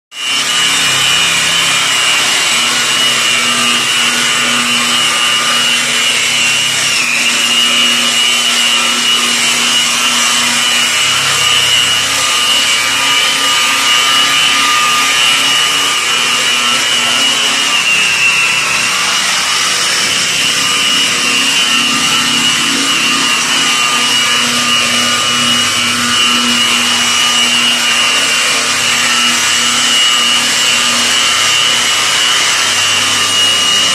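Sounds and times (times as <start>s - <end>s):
angle grinder buffing a wall: 0.1s - 33.9s.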